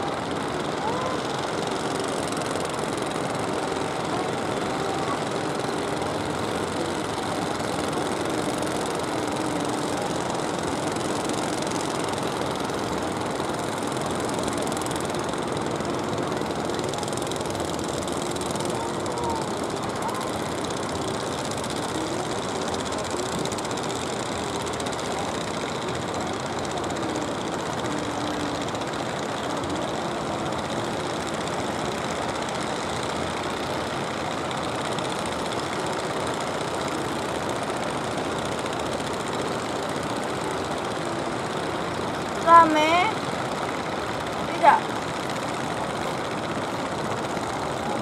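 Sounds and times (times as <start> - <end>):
boat engines running: 0.0 - 48.0
wind: 0.0 - 48.0.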